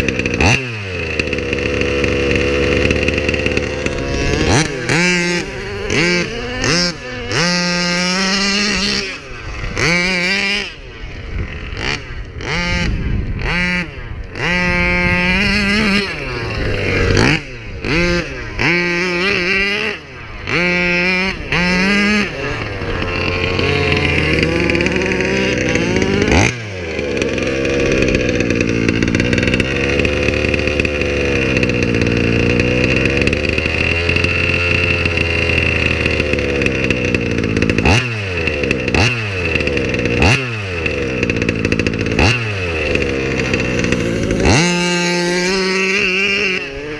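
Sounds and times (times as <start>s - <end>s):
small two-stroke engine revving: 0.0s - 46.9s.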